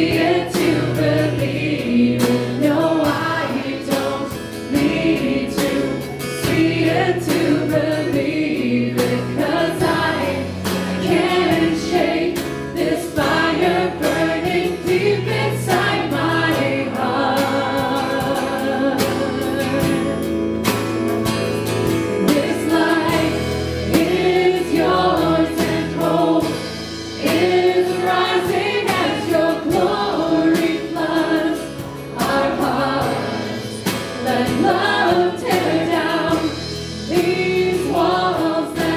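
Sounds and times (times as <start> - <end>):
voices singing: 0.0 - 20.4, 22.1 - 38.9
live band playing worship song: 0.0 - 38.9.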